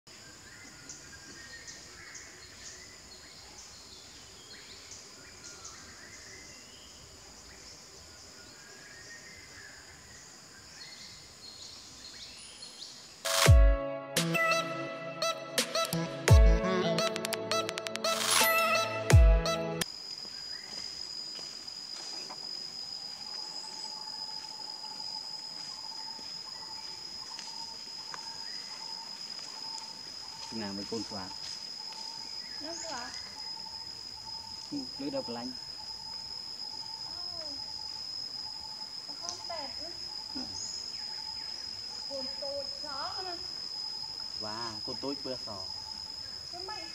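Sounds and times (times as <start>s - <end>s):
pulsing insect drone: 0.1s - 13.6s, 14.2s - 46.9s.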